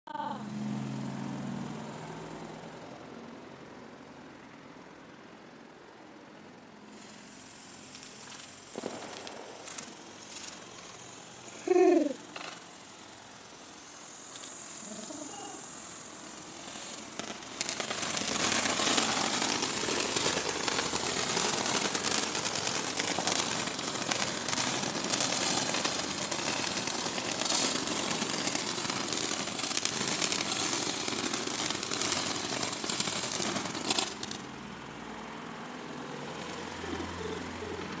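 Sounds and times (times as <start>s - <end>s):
firecrackers popping: 6.9s - 38.0s.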